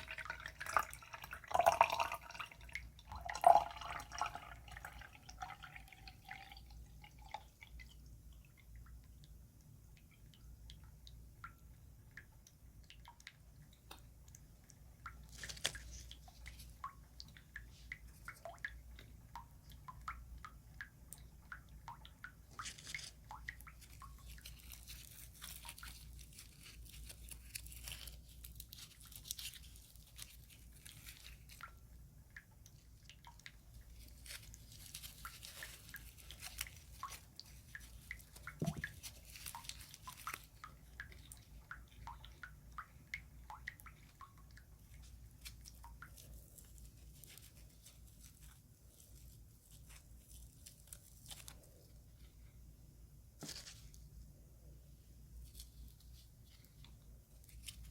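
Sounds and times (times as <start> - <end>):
wet crackling and squishing: 0.0 - 52.6, 55.2 - 57.9
water dripping: 0.0 - 54.3, 55.2 - 57.9.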